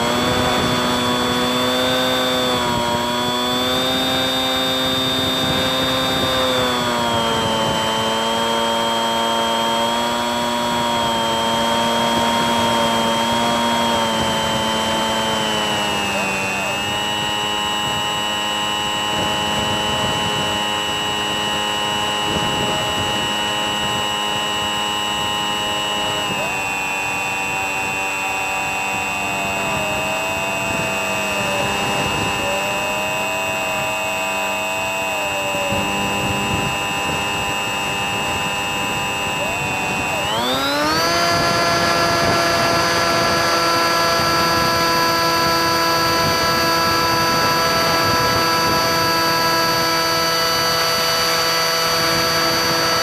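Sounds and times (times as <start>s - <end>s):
electric motor and propeller whining: 0.0s - 53.0s.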